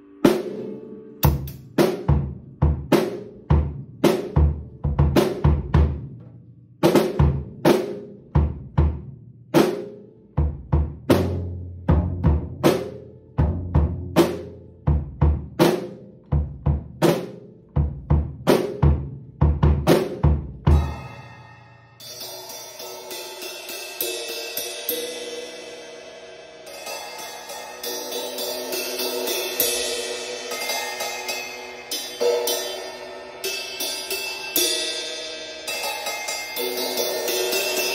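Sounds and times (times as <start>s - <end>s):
drum kit groove with fills: 0.0s - 37.9s.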